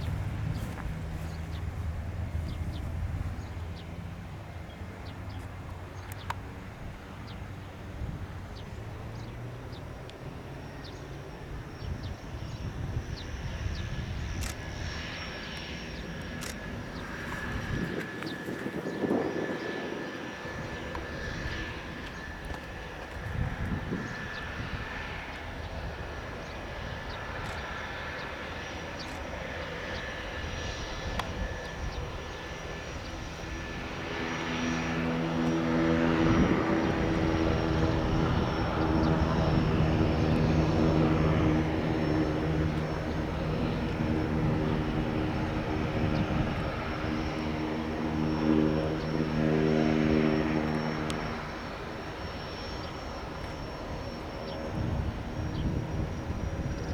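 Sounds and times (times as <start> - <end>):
propeller buzzing: 0.0 - 56.9
turboprop engine whine: 0.0 - 56.9.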